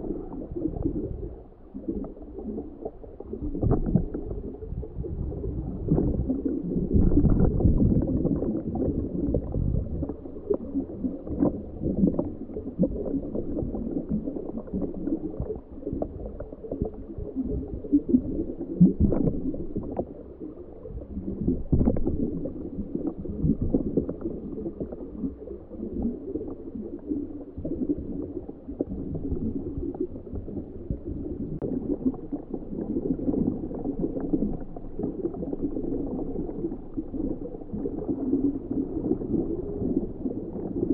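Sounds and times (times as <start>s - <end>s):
gurgling underwater rumble: 0.0s - 40.9s.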